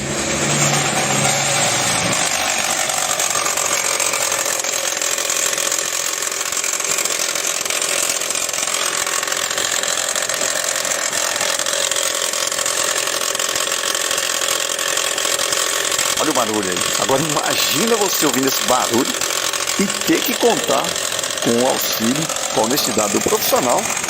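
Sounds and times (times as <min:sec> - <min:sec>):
car engine running: 0:00.0 - 0:24.0
water pump grinding rattle: 0:00.0 - 0:24.0.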